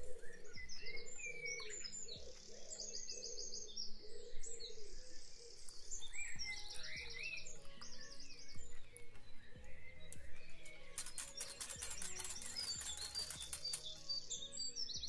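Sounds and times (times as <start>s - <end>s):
birds chirping and trilling: 0.0s - 15.0s
soft background music: 0.0s - 15.0s.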